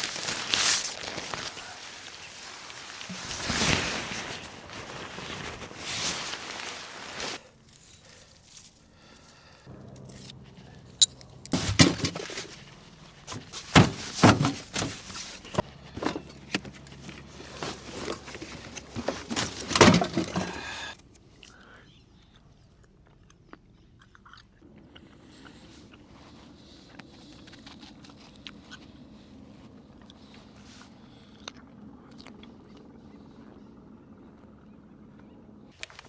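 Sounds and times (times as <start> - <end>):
irregular crunching and clicking: 0.0 - 29.2, 35.8 - 36.0.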